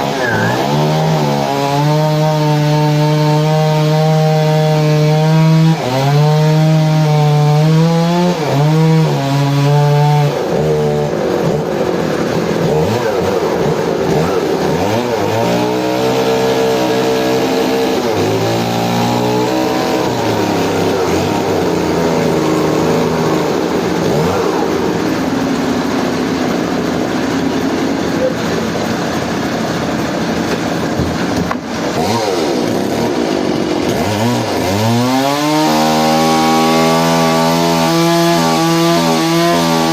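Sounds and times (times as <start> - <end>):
engine saw cutting log: 0.0 - 39.9.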